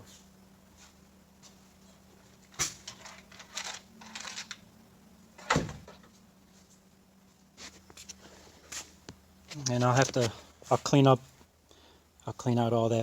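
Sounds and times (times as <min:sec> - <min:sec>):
rustling and scraping: 0:00.0 - 0:04.6, 0:05.4 - 0:11.4
low steady hum: 0:00.0 - 0:13.0.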